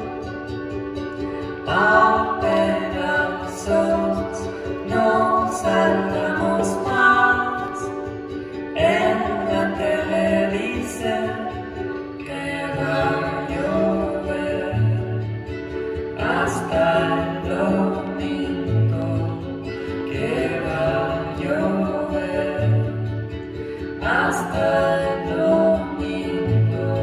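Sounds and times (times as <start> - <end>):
acoustic guitar: 0.0 - 27.0
ukulele: 0.0 - 27.0
woman singing: 1.2 - 27.0
man singing: 1.5 - 8.1, 8.7 - 15.2, 16.2 - 23.2, 24.0 - 27.0.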